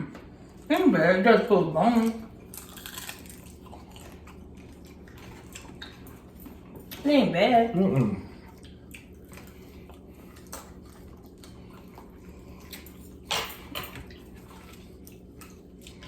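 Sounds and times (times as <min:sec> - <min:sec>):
low steady hum: 0:00.0 - 0:16.0
wet chewing and mouth noises: 0:01.8 - 0:16.0.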